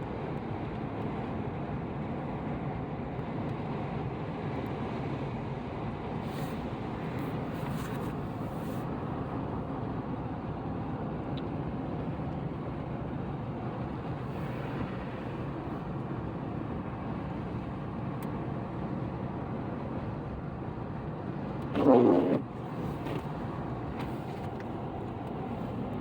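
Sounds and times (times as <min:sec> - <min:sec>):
car tyres and engine hum: 0:00.0 - 0:26.0.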